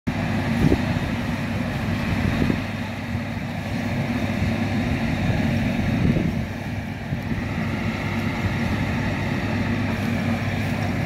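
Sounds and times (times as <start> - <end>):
diesel farm machinery rumbling: 0.1 - 11.0.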